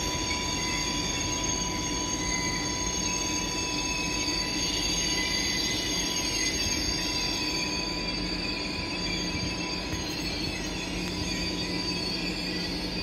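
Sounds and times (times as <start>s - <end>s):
low train rumble: 0.0s - 13.0s
train wheels squealing: 0.0s - 13.0s.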